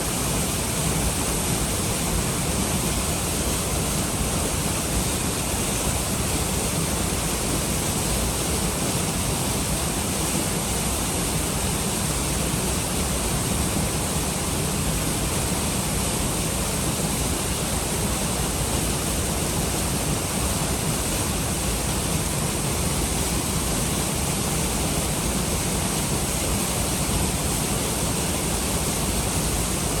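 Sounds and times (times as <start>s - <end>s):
waterfall pouring into a pool: 0.0s - 30.0s.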